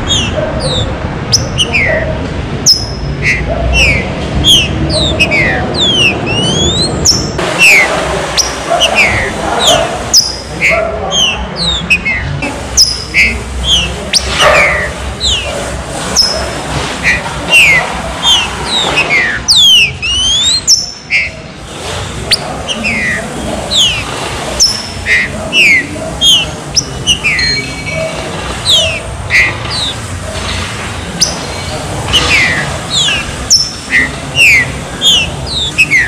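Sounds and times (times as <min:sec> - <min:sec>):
bird whistled calls: 0:00.0 - 0:15.6, 0:16.2 - 0:21.5, 0:22.3 - 0:30.0, 0:31.2 - 0:36.0.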